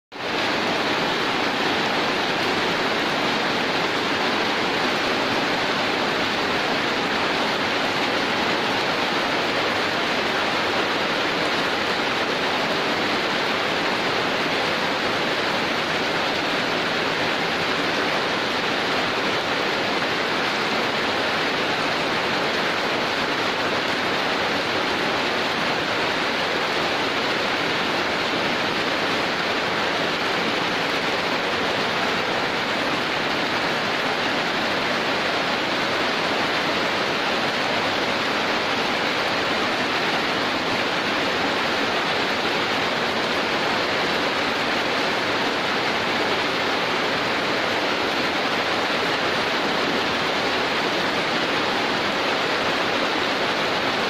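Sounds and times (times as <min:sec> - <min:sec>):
heavy rain pouring: 0:00.1 - 0:54.0.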